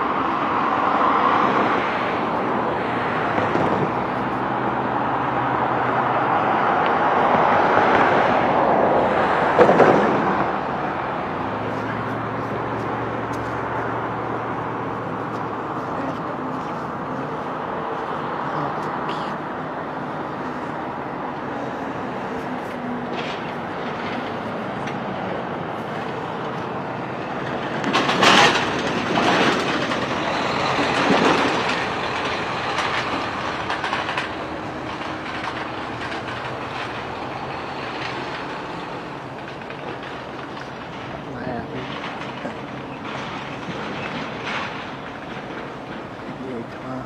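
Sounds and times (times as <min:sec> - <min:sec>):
freight train rumbling past: 0:00.0 - 0:47.0.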